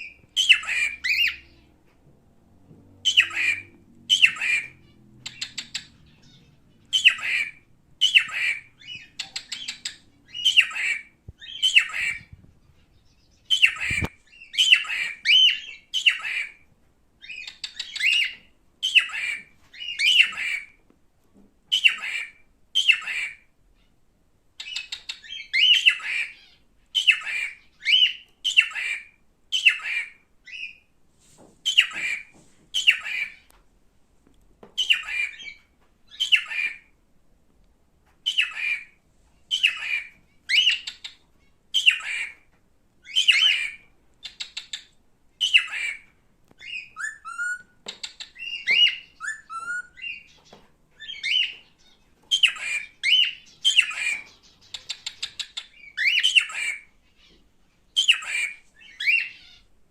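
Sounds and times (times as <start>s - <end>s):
cockatiel calling: 0.0s - 1.7s, 3.0s - 20.8s, 21.7s - 23.9s, 24.6s - 30.9s, 31.6s - 33.6s, 34.7s - 37.0s, 38.2s - 59.7s.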